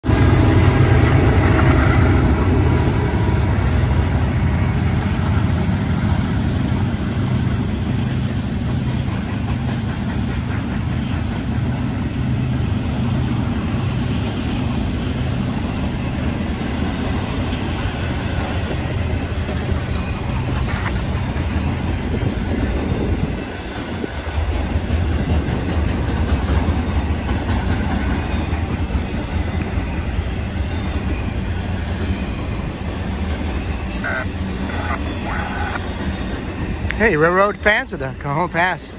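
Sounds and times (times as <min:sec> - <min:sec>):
diesel locomotive engine drone: 0:00.0 - 0:38.9
train wheels rumbling on rail: 0:00.0 - 0:38.9.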